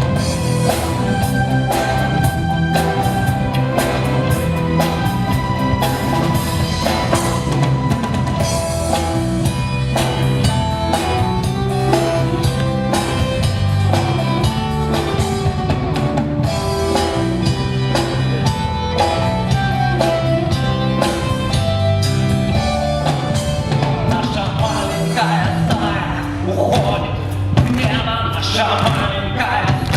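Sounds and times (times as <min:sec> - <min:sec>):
electric guitar: 0:00.0 - 0:28.1
drum kit beat: 0:00.0 - 0:29.9.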